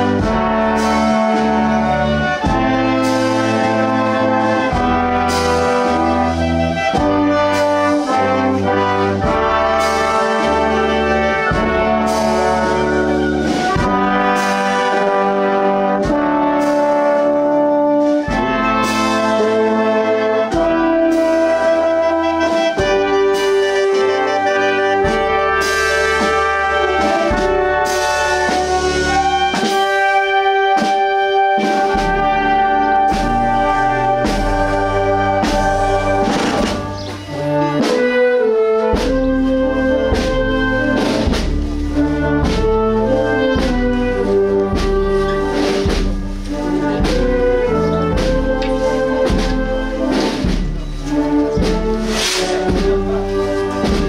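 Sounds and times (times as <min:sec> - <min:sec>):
wind band playing a march: 0:00.0 - 0:54.0.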